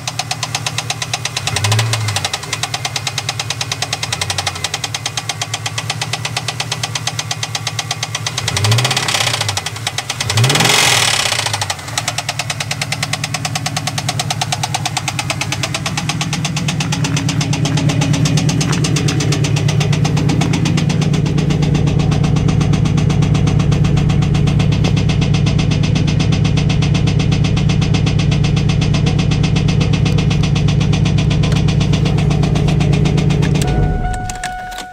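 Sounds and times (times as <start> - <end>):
car engine knocking: 0.0 - 34.9.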